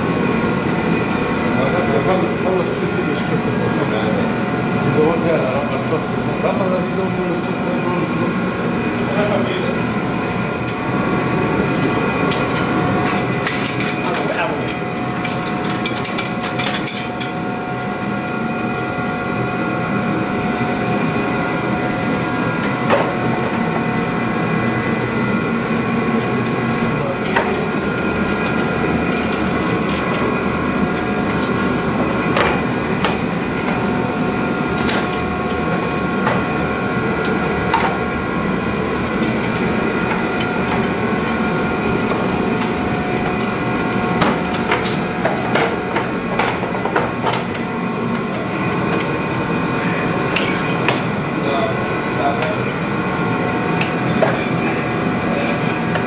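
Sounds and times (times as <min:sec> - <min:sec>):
mechanical hum with tones: 0:00.0 - 0:56.0.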